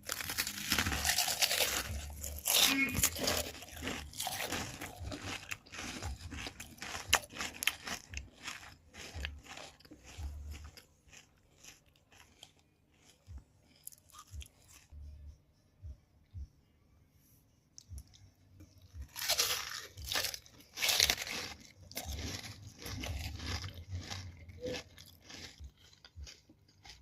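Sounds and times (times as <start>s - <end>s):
chips being bitten and chewed: 0.0s - 15.0s, 17.8s - 27.0s.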